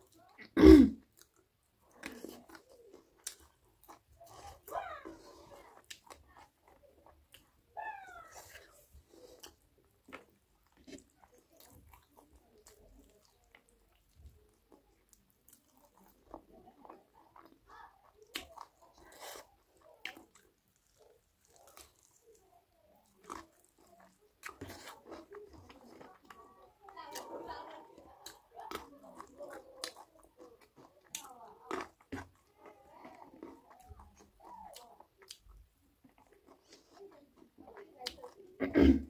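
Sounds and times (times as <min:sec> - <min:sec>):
biting and chewing: 0:01.1 - 0:07.5, 0:08.1 - 0:38.6.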